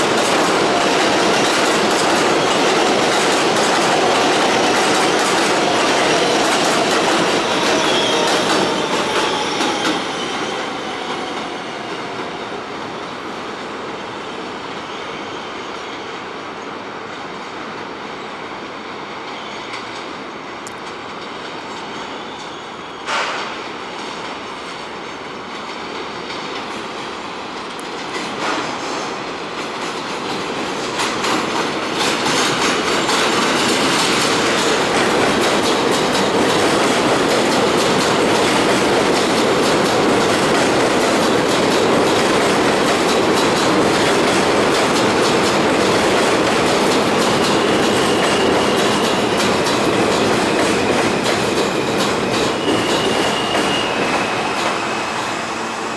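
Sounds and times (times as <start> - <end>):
subway wheels squealing: 0.0 - 55.9.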